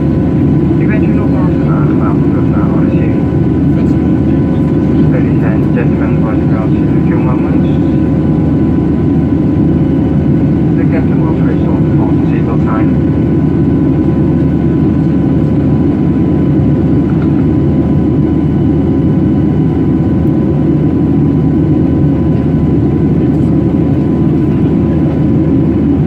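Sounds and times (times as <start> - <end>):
jet engines droning in cabin: 0.0 - 26.0.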